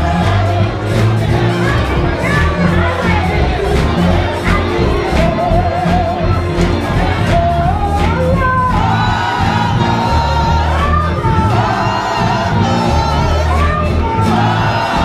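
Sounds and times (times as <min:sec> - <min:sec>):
gospel music with singing: 0:00.0 - 0:15.0
murmur of crowd: 0:00.0 - 0:15.0.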